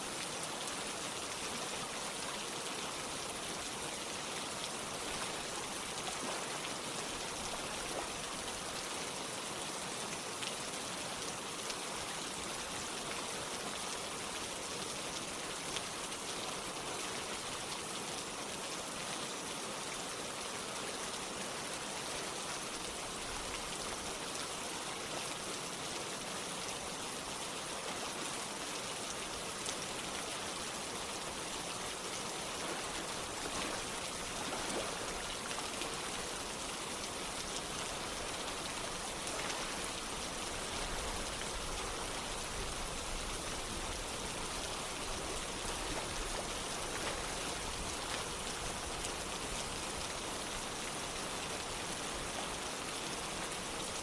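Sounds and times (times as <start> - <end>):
running water: 0.0 - 54.0
steady rain: 0.0 - 54.0.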